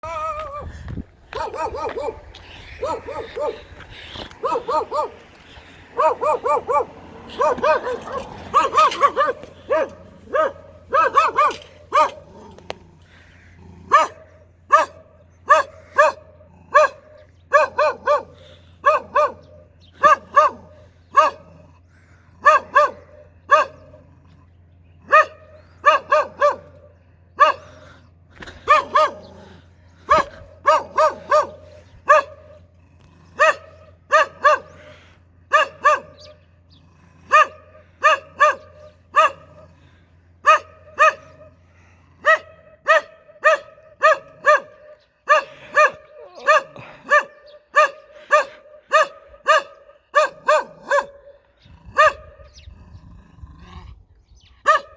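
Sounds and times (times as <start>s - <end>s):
dog barking fiercely: 0.0s - 24.4s, 25.0s - 53.9s, 54.6s - 54.9s.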